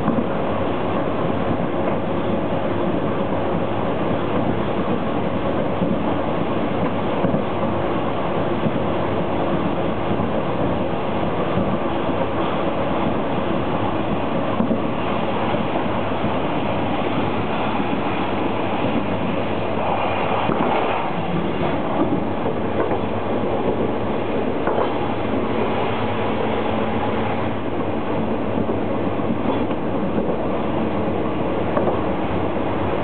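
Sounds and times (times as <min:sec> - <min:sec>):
diesel engine drone: 0:00.0 - 0:33.0
wheels rolling on rail: 0:00.0 - 0:33.0.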